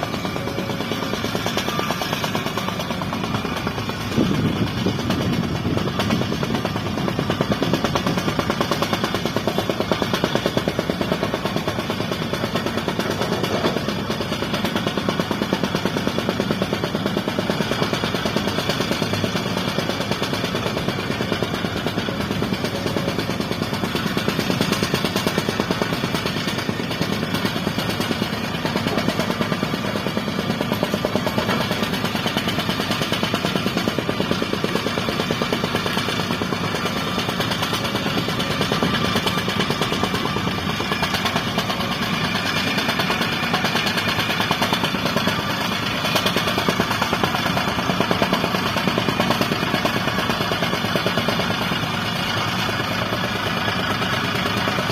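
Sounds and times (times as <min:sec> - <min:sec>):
heavy diesel engine clattering: 0:00.0 - 0:54.9.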